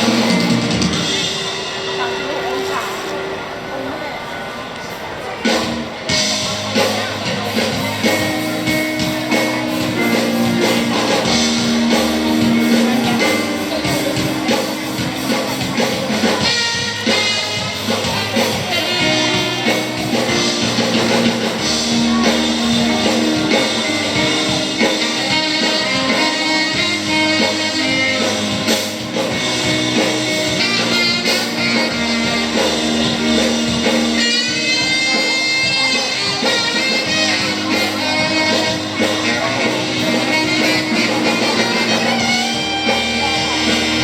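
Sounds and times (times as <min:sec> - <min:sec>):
drum kit: 0:00.0 - 0:03.4, 0:05.4 - 0:44.0
electric guitar: 0:00.0 - 0:03.4, 0:05.4 - 0:44.0.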